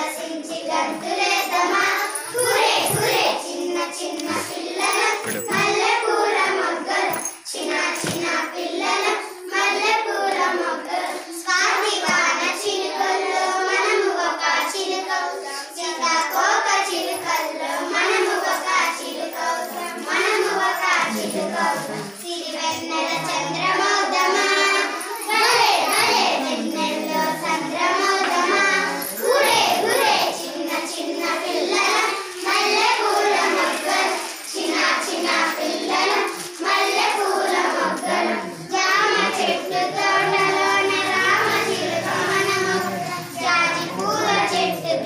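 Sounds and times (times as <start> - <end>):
high singing voices over music: 0.0 - 45.0.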